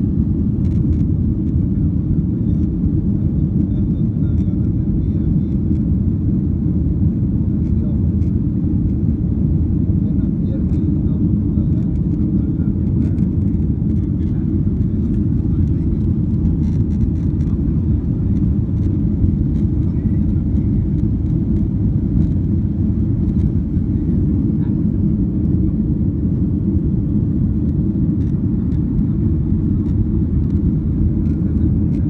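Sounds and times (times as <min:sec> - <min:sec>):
jet engines and rushing air: 0:00.0 - 0:32.0.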